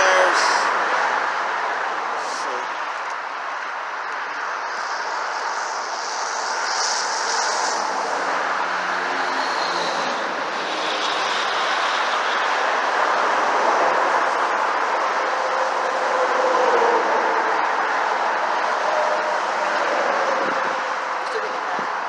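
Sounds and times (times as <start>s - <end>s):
highway traffic passing: 0.0s - 22.0s.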